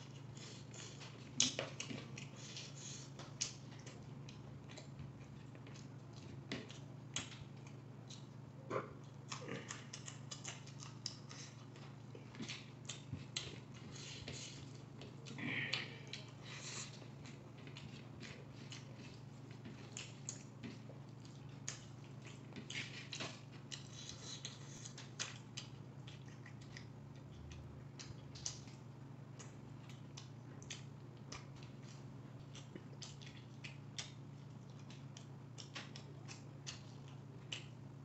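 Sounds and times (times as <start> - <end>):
man chewing noodles: 0.0 - 38.0
steady low hum: 0.0 - 38.0.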